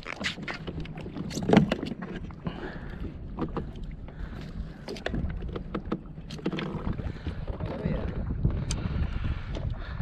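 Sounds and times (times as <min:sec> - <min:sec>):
water sloshing against kayak: 0:00.0 - 0:10.0.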